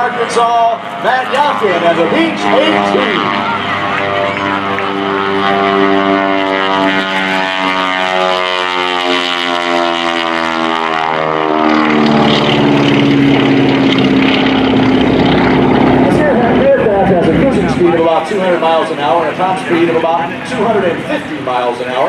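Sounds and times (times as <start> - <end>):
propeller plane flyby droning: 0.0 - 22.0.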